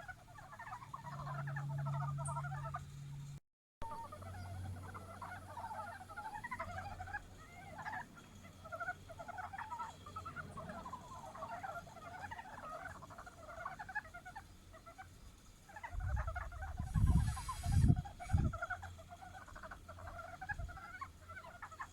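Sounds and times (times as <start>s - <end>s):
frogs chattering calls: 0.0s - 3.2s, 3.8s - 21.9s.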